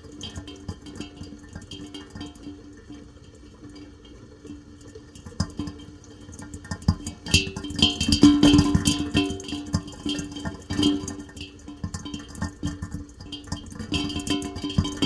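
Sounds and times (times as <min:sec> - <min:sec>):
faint water: 0:00.0 - 0:15.0.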